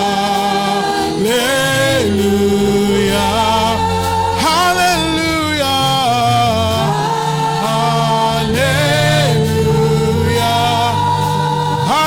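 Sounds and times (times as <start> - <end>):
choir and congregation singing: 0.0 - 12.0
keyboard accompaniment: 0.0 - 12.0.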